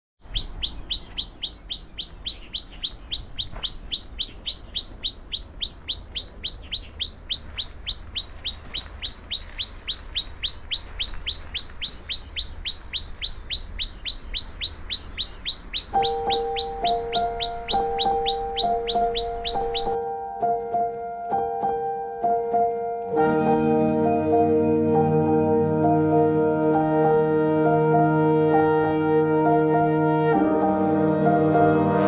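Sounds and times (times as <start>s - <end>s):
bird chirping downward-sliding chirps: 0.2s - 32.0s.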